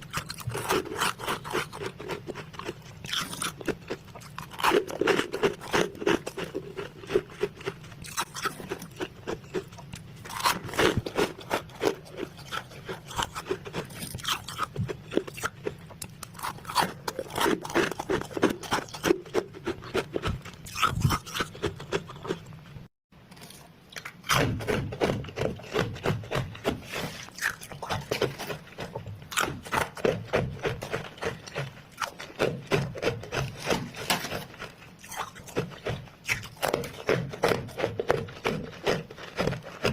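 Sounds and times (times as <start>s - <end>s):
crunching of frost being chewed: 0.0s - 22.7s, 23.3s - 39.9s.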